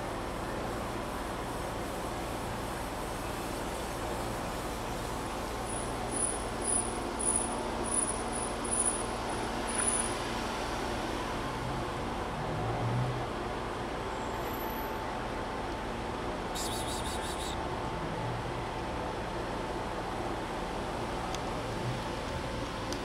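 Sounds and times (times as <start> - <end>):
road traffic noise: 0.0 - 23.0.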